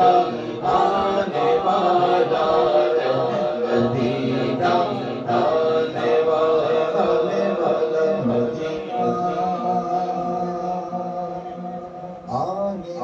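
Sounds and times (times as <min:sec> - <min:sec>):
men singing a devotional hymn: 0:00.0 - 0:13.0.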